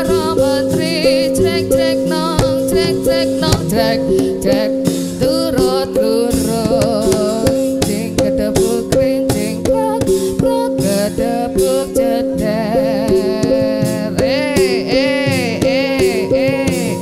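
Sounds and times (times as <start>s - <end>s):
drum strokes: 0.0s - 17.0s
person singing: 0.0s - 17.0s
struck metal percussion: 0.0s - 17.0s.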